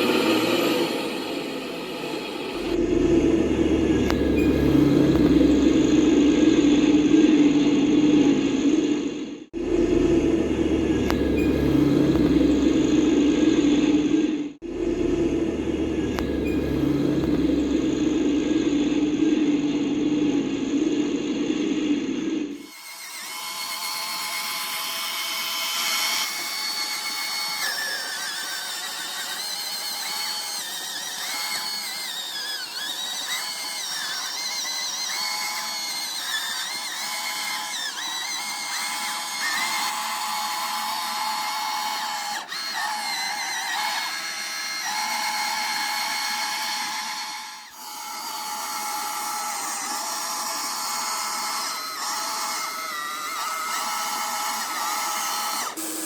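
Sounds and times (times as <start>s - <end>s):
toy truck electric motors whining: 0.0s - 56.0s.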